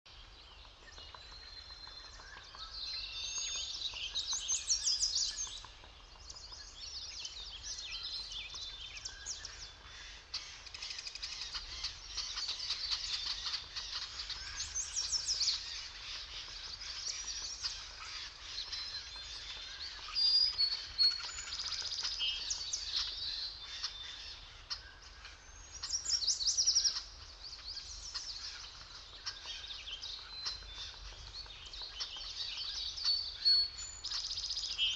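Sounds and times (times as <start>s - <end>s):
faint background noise: 0.1s - 34.9s
songbirds chirping and trilling: 0.1s - 34.9s.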